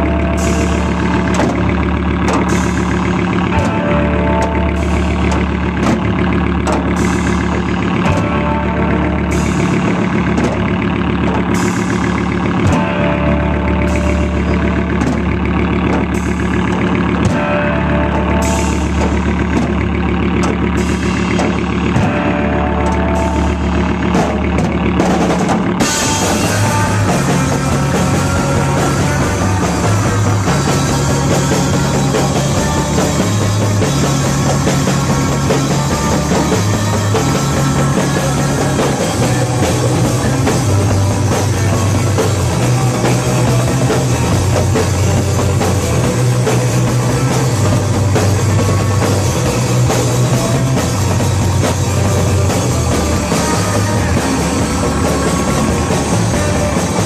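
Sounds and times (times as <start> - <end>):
bass line: 0.0 - 57.0
drum hits: 0.0 - 57.0
live rock band playing: 0.0 - 57.0.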